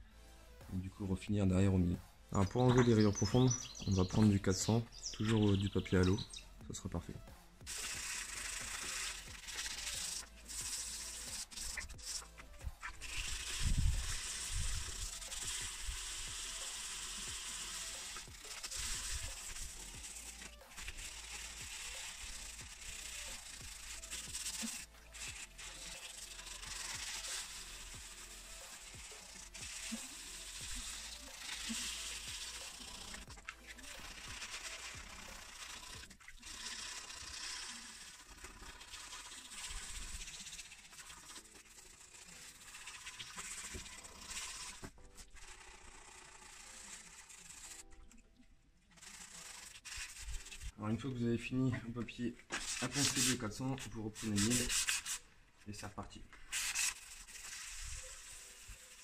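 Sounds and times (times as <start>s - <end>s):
sandpaper rubbing on plastic: 2.4s - 47.9s, 48.9s - 55.4s, 56.3s - 59.0s.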